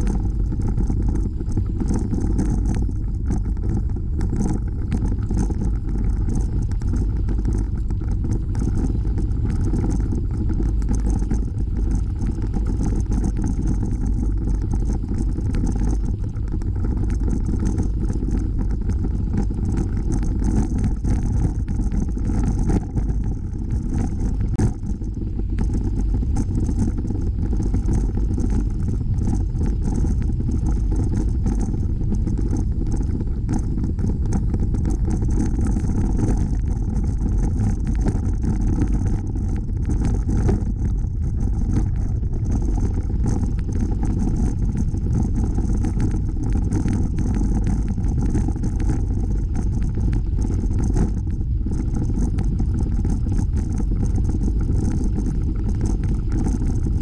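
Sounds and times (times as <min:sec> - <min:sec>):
bicycle tyres rolling on trail: 0:00.0 - 0:55.8.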